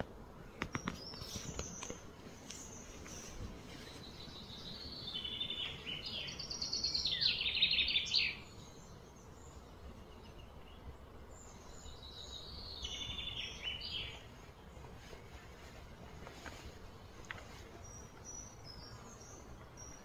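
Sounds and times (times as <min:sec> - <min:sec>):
faint background hiss: 0:00.0 - 0:20.0.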